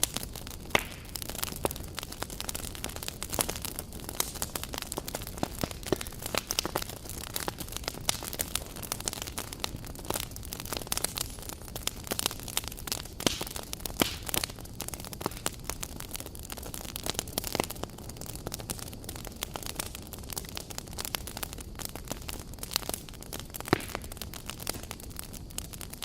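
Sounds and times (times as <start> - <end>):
campfire crackling: 0.0 - 26.0
low hiss: 0.0 - 26.0.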